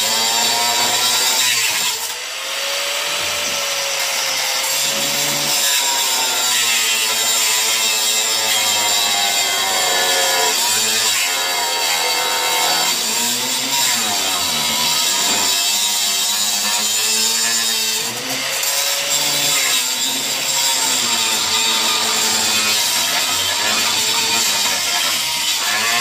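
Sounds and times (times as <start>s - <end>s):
angle grinder cutting metal: 0.0s - 26.0s.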